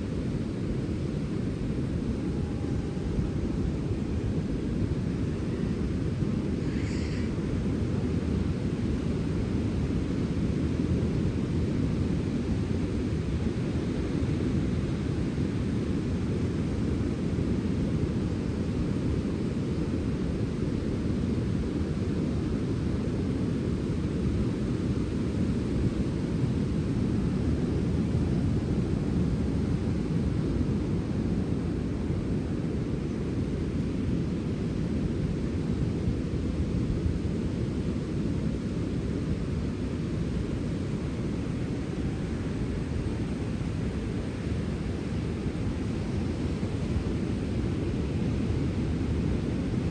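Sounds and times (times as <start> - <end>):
sea wind blowing: 0.0 - 49.9.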